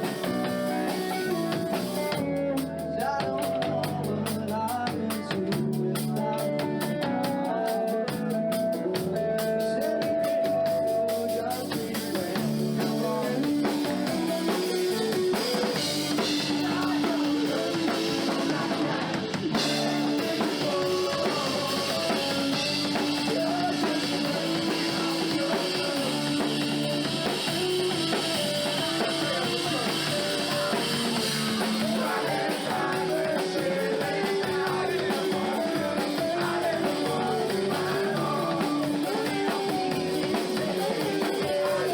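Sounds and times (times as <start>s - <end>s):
drum kit: 0.0s - 41.9s
guitar: 0.0s - 41.9s
live rock band playing: 0.0s - 41.9s
person singing: 0.0s - 41.9s.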